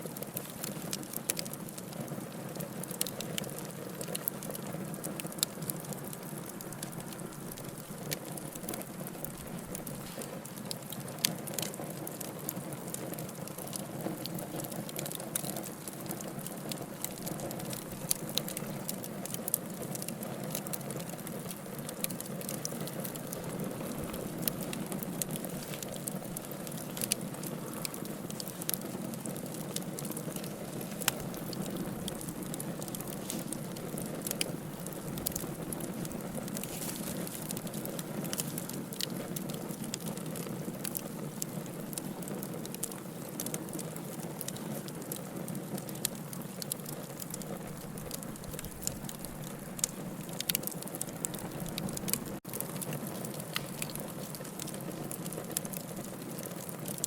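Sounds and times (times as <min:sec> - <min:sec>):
campfire flames rushing: 0:00.0 - 0:57.0
fire crackling and popping: 0:00.0 - 0:57.0.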